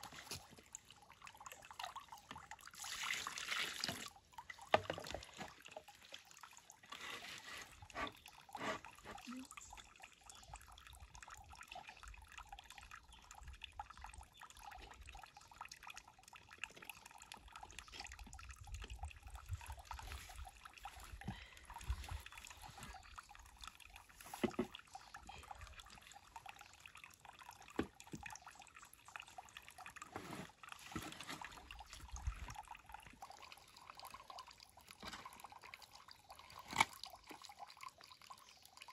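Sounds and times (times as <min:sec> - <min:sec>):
water splashing in a basin: 0:00.0 - 0:38.9.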